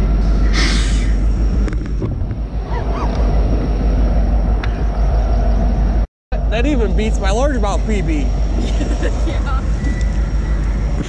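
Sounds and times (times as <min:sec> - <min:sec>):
wind buffeting microphone: 0:01.2 - 0:11.0.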